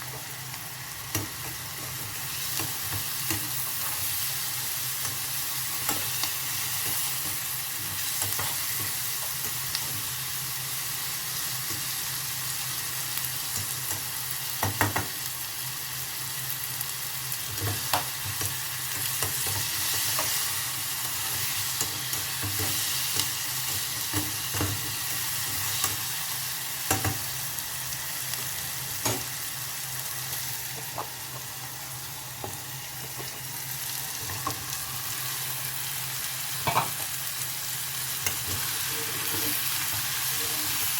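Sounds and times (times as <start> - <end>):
vegetables sizzling in a pan: 0.0 - 40.9.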